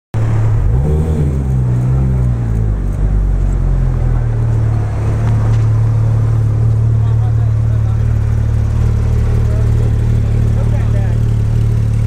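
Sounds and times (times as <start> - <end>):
sports car engine droning: 0.2 - 12.0.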